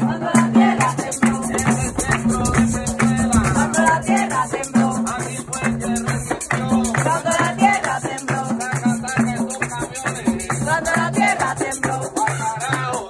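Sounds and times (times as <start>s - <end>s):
hand drums beating: 0.0s - 13.0s
percussion rattle: 0.0s - 13.0s
voices singing: 0.0s - 13.0s
hands clapping: 0.8s - 12.9s.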